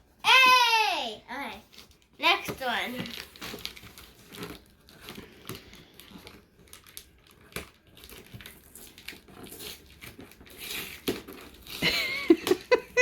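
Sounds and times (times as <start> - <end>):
cardboard packaging tearing: 1.7 - 12.7.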